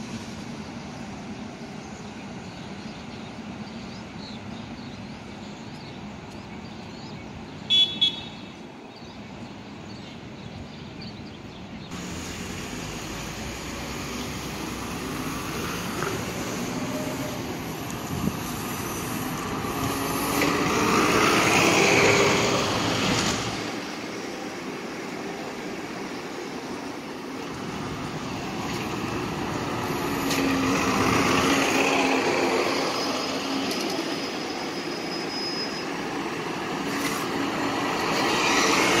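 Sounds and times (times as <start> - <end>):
buses driving past: 0.0 - 39.0.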